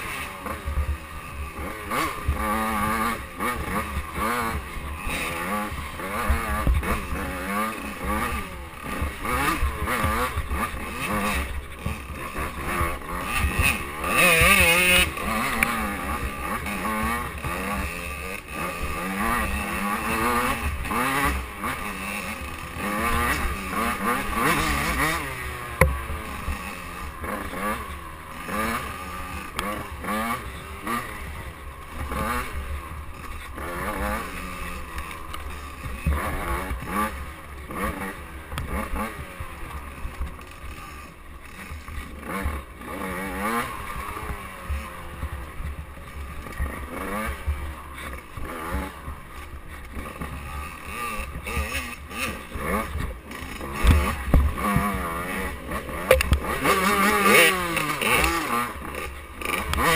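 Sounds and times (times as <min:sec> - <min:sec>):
dirt bike engine revving: 0:00.0 - 0:59.9
second dirt bike engine: 0:00.0 - 0:59.9.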